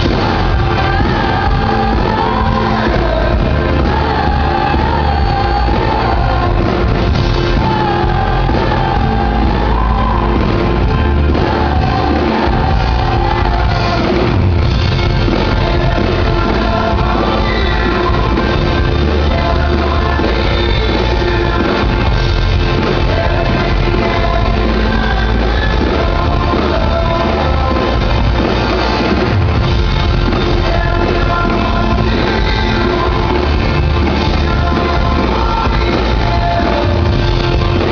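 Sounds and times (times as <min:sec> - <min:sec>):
man singing: 0:00.0 - 0:37.9
pop-rock band playing live: 0:00.0 - 0:37.9.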